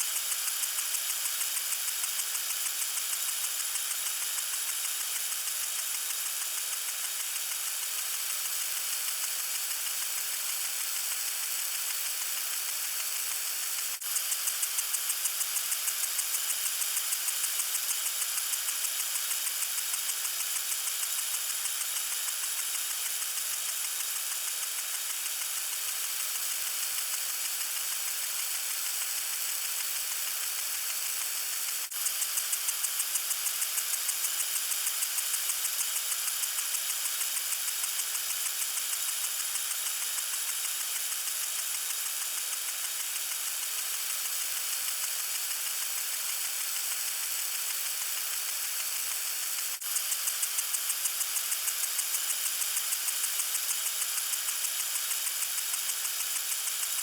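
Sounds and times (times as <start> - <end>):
lawn sprinkler spraying water: 0.0 - 57.0.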